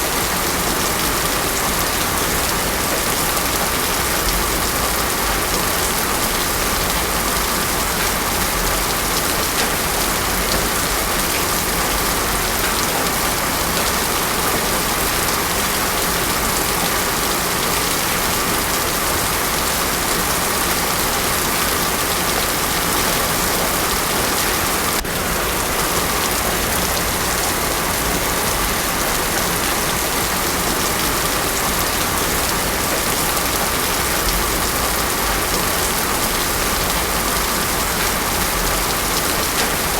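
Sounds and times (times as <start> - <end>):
heavy rain on road: 0.0 - 39.9.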